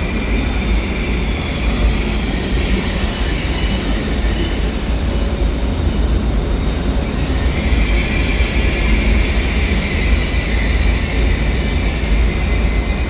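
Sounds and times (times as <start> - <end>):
rolling train rumble: 0.0 - 13.0
train wheels squealing on rails: 0.0 - 13.0.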